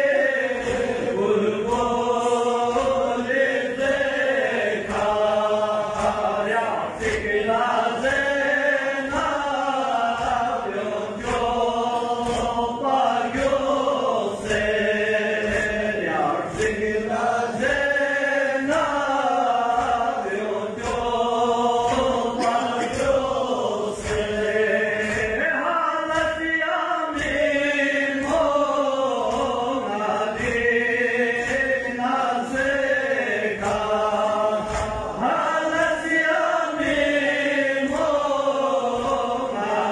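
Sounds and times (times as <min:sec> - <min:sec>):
man chanting over a microphone: 0:00.0 - 0:39.9
rhythmic chest-beating thumps: 0:00.0 - 0:39.9.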